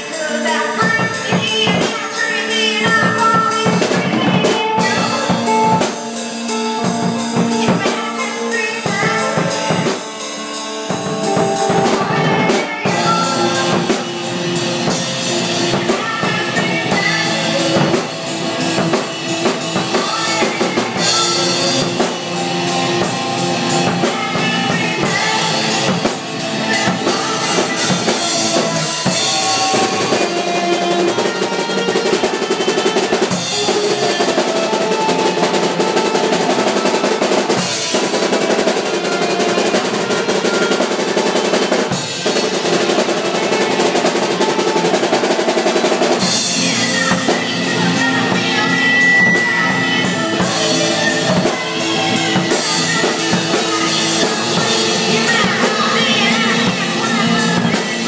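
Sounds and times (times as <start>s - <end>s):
drum kit: 0.0s - 58.0s
rock band playing live: 0.0s - 58.0s
woman singing: 0.0s - 58.0s.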